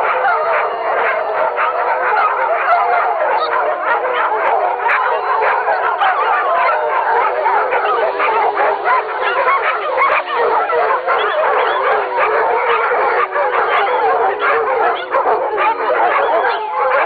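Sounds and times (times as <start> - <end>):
dogs howling in chorus: 0.0 - 17.0.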